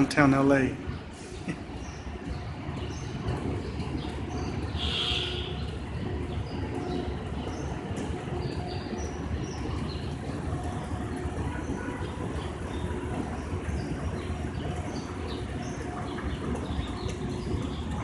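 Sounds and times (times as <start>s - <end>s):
escalator rumbling: 0.0s - 18.0s.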